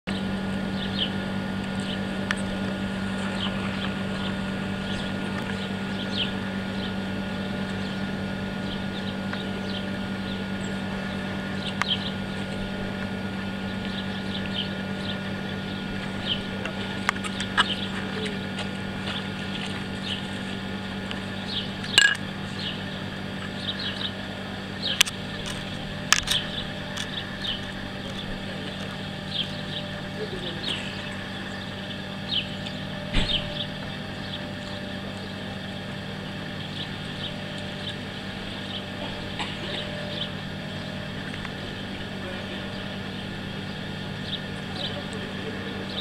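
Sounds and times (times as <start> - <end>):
birds chirping: 0.1 - 46.0
train electrical hum: 0.1 - 46.0.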